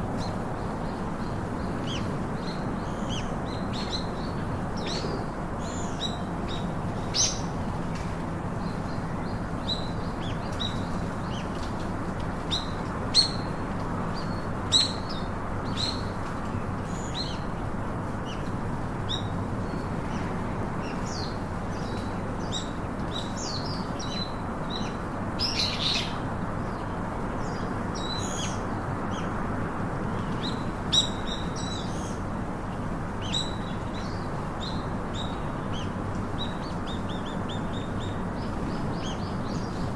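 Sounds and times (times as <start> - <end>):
small birds chirping: 0.1 - 29.4, 30.0 - 39.9.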